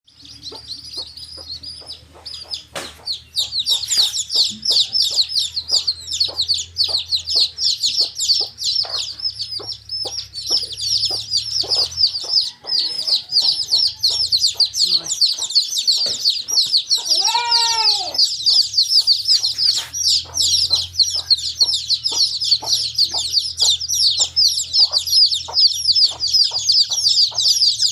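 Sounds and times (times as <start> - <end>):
baby chicks peeping: 0.1 - 27.9.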